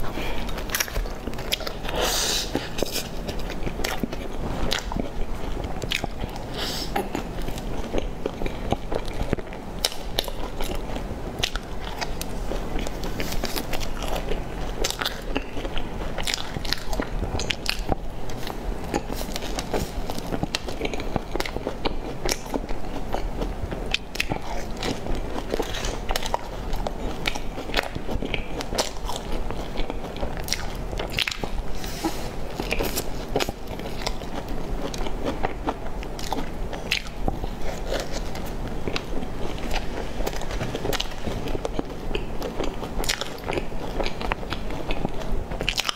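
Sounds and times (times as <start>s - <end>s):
chewing crunchy buns: 0.0s - 45.9s.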